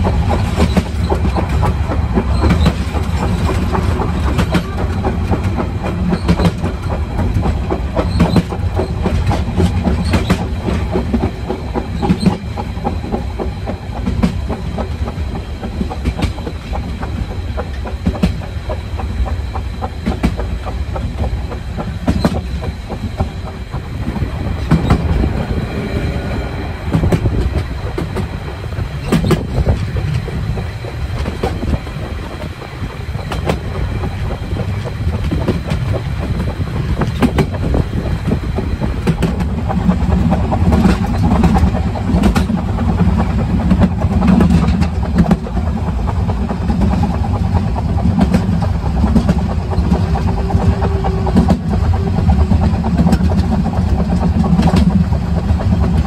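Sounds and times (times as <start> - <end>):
clicks over rail joints: 0.0 - 23.8, 29.0 - 56.0
train wheels rumbling: 0.0 - 56.0.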